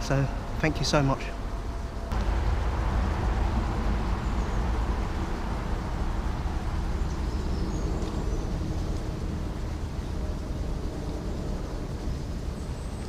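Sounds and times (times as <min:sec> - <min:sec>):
low rumbling: 0:00.0 - 0:13.0.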